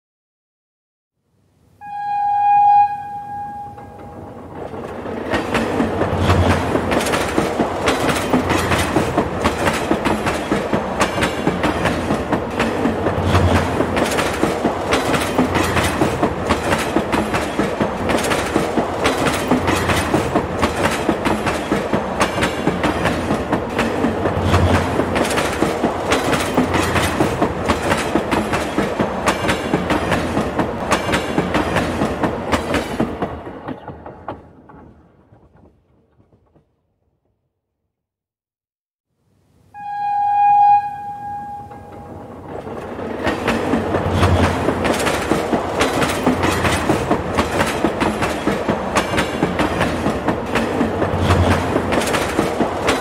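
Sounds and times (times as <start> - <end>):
train wheels clickety-clack on rails: 3.8 - 36.8, 41.7 - 53.0.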